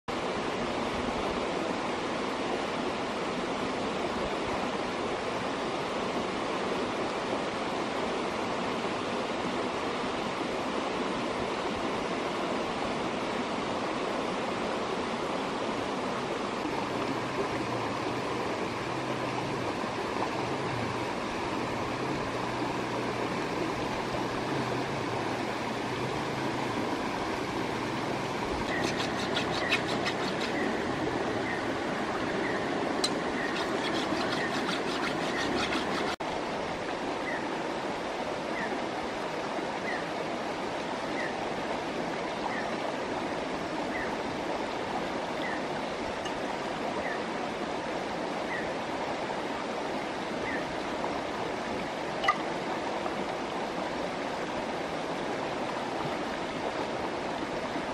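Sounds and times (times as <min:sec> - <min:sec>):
stream water flowing: 0:00.1 - 0:57.9.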